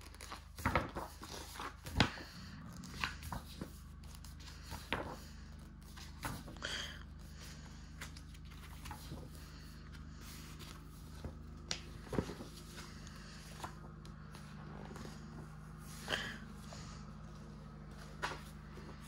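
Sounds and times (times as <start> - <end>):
book pages rustling: 0.0 - 19.0
steady low hum: 0.0 - 19.0.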